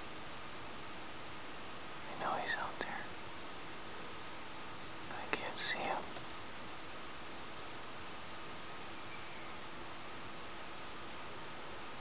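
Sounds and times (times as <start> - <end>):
crickets chirping: 0.0 - 12.0
steady hiss: 0.0 - 12.0.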